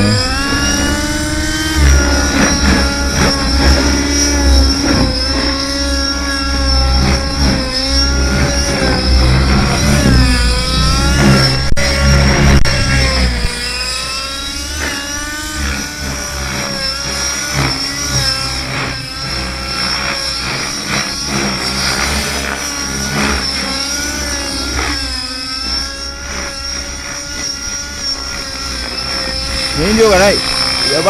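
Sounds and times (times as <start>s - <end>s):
model helicopter engine and rotor: 0.0s - 31.0s.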